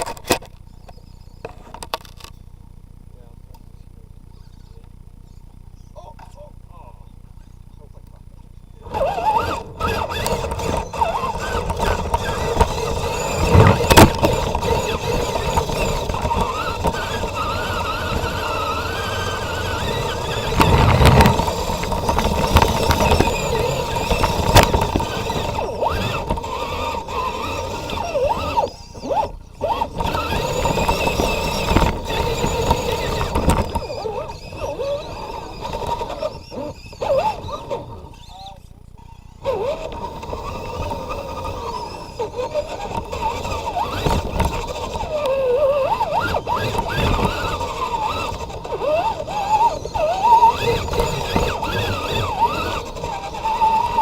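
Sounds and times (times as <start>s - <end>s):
knocks and scrapes on rough ground: 0.0s - 2.4s, 8.9s - 54.0s
toy truck electric motor whining: 0.0s - 2.6s, 8.8s - 54.0s.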